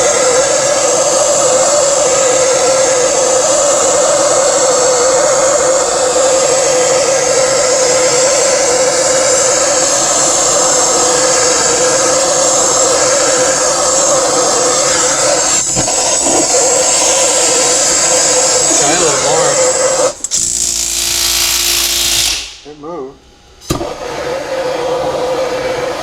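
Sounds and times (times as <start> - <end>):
gas torch flame roaring hiss: 0.0 - 22.8, 23.6 - 26.0.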